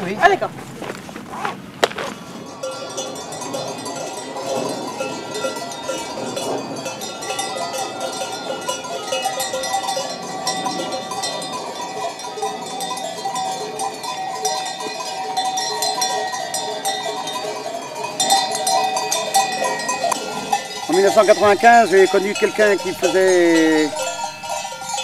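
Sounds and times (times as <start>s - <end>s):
sheep bells clanking and jangling: 2.3s - 25.0s.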